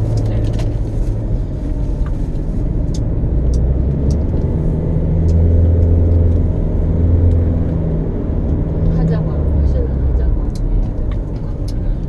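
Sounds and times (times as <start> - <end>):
car engine: 0.0 - 12.0
road noise inside car: 0.0 - 12.0.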